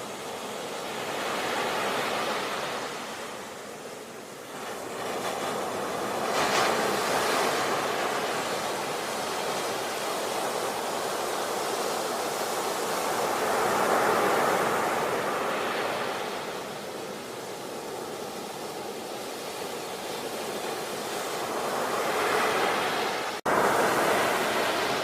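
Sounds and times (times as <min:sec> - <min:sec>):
surf washing: 0:00.0 - 0:25.0
waves crashing on shore: 0:00.0 - 0:25.0.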